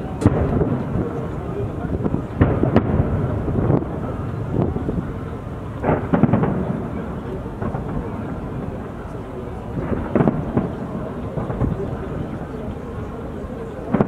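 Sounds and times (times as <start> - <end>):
fireworks booming: 0.0 - 14.0
rolling rumble: 0.0 - 14.0.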